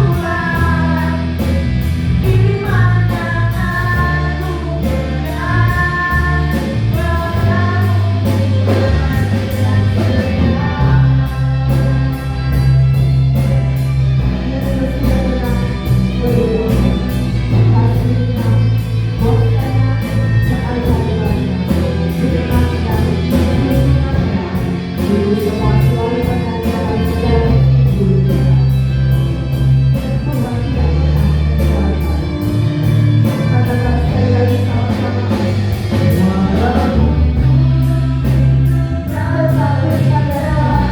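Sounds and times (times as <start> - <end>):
bass line: 0.0 - 40.9
group vocals: 0.0 - 40.9
steady drum beat: 0.0 - 40.9.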